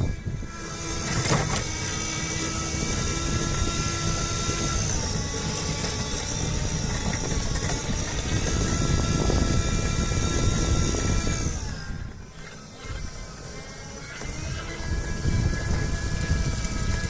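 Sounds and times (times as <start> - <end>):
wheelchair motor whine: 0.0 - 17.0.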